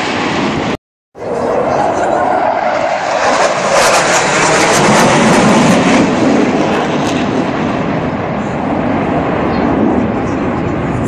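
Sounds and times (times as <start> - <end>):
fighter jet roaring overhead: 0.0 - 11.0.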